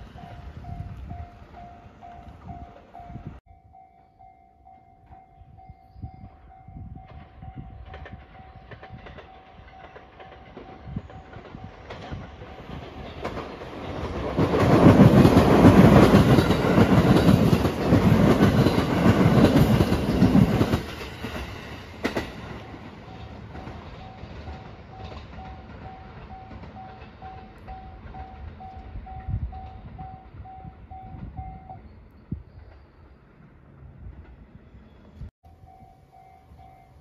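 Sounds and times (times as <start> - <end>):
train passing at speed: 0.0 - 37.0.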